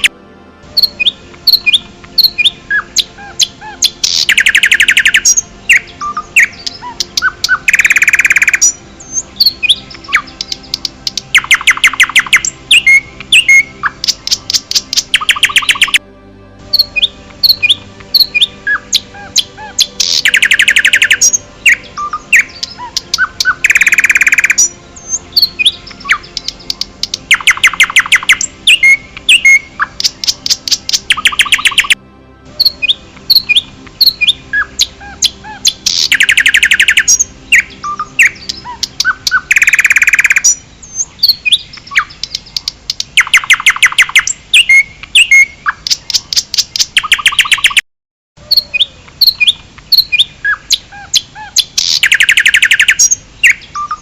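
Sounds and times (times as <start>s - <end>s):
songbirds singing: 0.0s - 16.0s, 16.6s - 47.8s, 48.4s - 54.0s.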